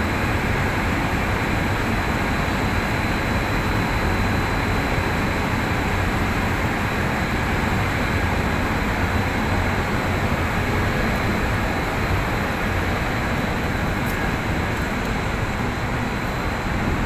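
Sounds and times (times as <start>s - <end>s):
crane machinery drone: 0.0s - 17.0s.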